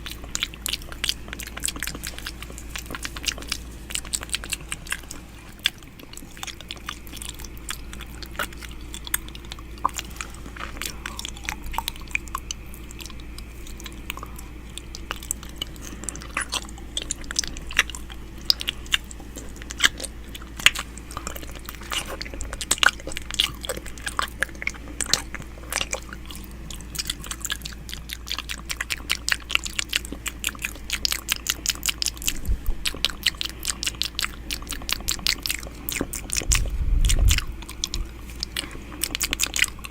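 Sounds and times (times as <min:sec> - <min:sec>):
mouth clicks and smacks: 0:00.0 - 0:39.9
steady low hum: 0:00.0 - 0:39.9.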